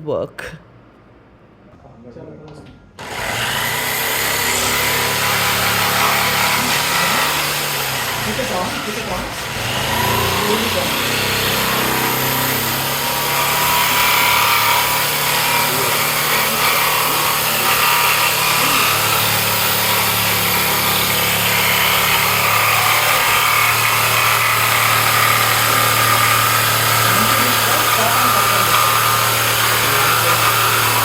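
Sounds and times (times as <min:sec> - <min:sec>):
electric power tool working wood: 0:03.0 - 0:31.0.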